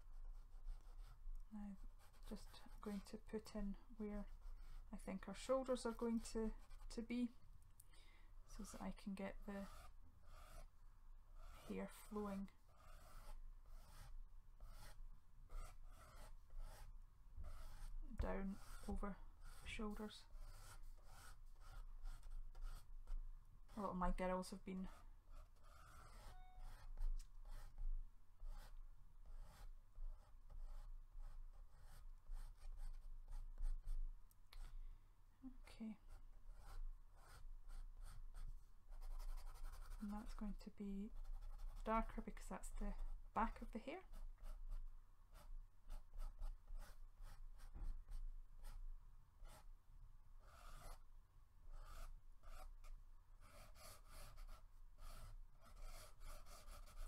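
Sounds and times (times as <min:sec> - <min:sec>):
pen scratching on paper: 0:00.2 - 0:07.3, 0:08.6 - 0:10.7, 0:11.4 - 0:34.0, 0:35.9 - 0:48.8, 0:49.4 - 0:49.7, 0:50.4 - 0:51.0, 0:51.7 - 0:57.0.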